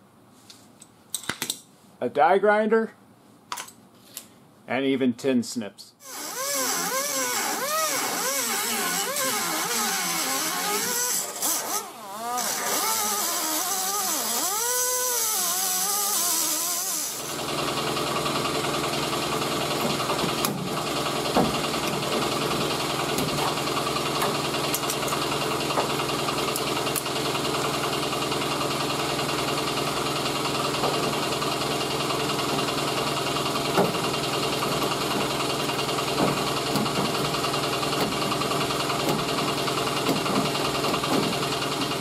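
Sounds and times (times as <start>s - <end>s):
steady mechanical hum: 0.0s - 42.0s
die grinder cutting sheet metal: 6.0s - 29.0s, 29.6s - 42.0s.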